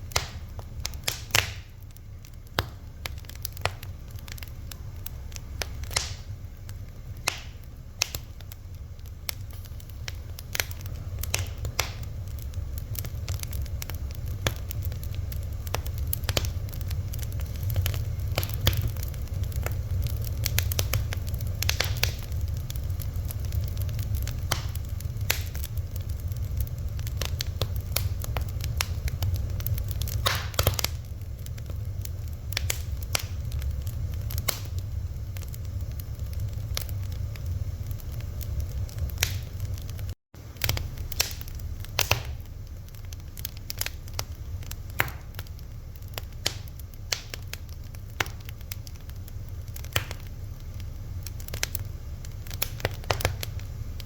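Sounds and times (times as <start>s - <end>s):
fire crackling: 0.0s - 54.0s
low fire rumble: 0.0s - 54.0s.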